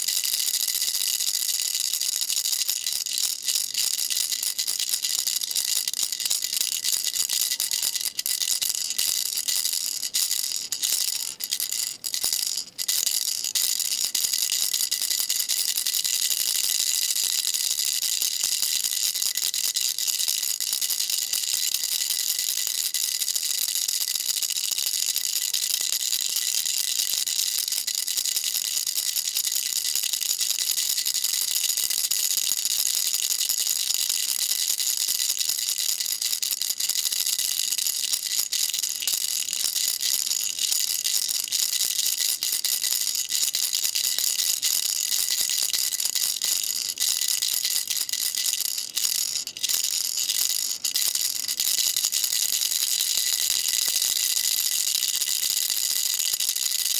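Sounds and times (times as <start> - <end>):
baby rattle shaking: 0.0 - 56.9.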